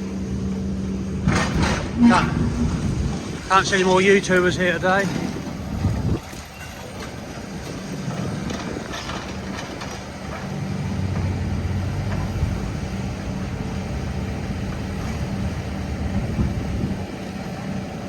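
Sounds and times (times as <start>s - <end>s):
vehicle engine humming: 0.0s - 18.0s
wind noise on microphone: 1.1s - 18.0s.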